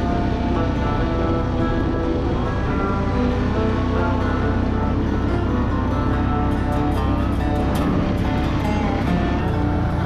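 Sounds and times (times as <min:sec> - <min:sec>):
background music with held notes: 0:00.0 - 0:10.0
steady low bass: 0:00.0 - 0:10.0.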